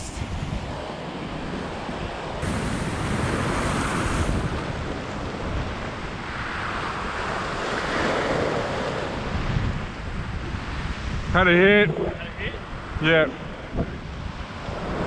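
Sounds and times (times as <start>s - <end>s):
ocean swell washing over rocks: 0.0s - 15.0s
wind buffeting microphone: 0.0s - 15.0s.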